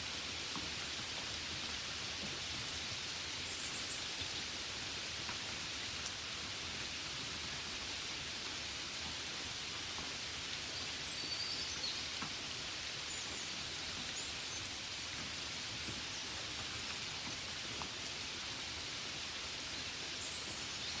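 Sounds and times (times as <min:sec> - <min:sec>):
gentle rain hissing: 0:00.0 - 0:21.0.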